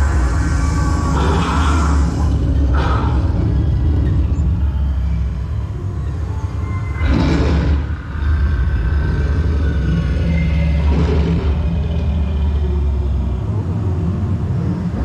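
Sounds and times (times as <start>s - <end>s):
deep rumble: 0.0s - 15.0s.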